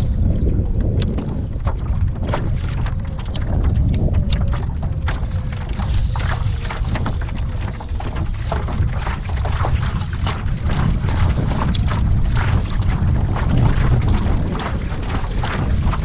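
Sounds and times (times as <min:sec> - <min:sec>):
water slapping kayak hull: 0:00.0 - 0:16.0
wind buffeting microphone: 0:00.0 - 0:16.0.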